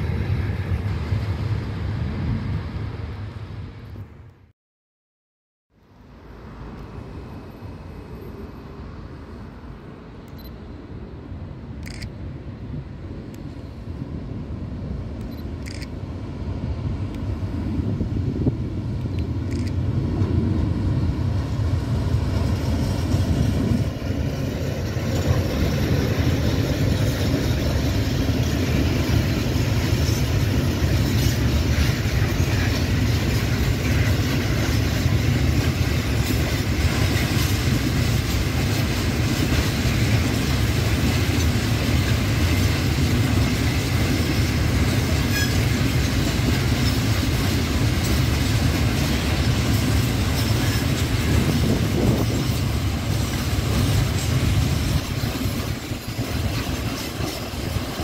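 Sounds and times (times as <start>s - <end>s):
freight train rumbling past: 0.0s - 4.3s, 5.8s - 58.0s.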